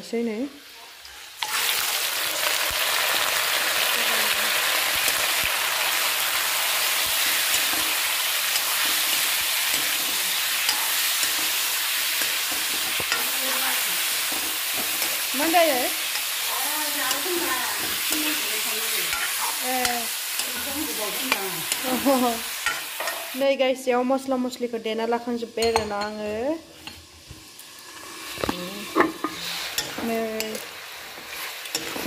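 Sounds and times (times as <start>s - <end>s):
chicken sizzling in hot oil: 0.0s - 23.6s, 25.0s - 32.0s.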